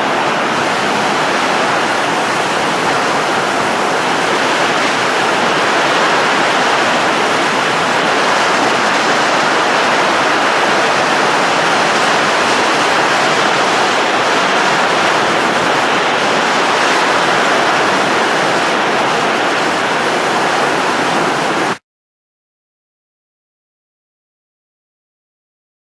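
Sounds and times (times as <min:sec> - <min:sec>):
steady rushing of blown air: 0:00.0 - 0:21.8.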